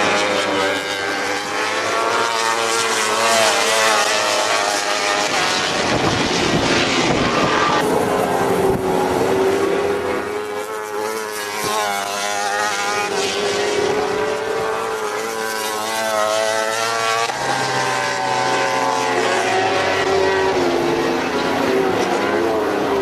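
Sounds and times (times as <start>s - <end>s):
racing motorcycles passing: 0.0s - 23.0s.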